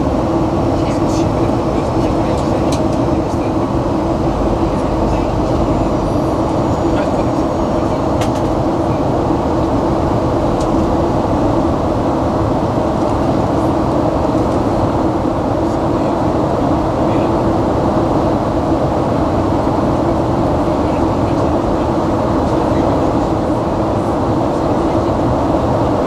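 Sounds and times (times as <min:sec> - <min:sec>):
constant low hum: 0:00.0 - 0:26.0
jet cabin engine rush: 0:00.0 - 0:26.0.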